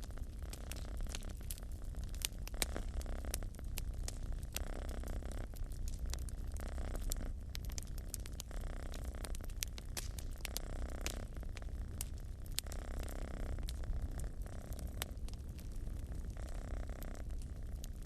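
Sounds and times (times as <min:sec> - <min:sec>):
cat purring: 0:00.0 - 0:18.0
wood fire crackling: 0:00.0 - 0:18.0.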